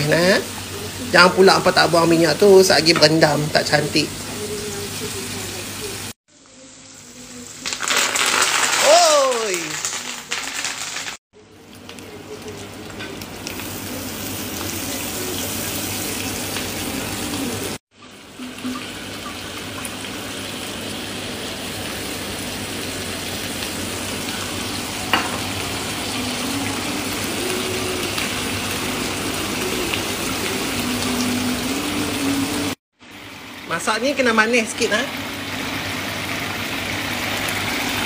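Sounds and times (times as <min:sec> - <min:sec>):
onions sizzling in oil: 0:00.0 - 0:38.0.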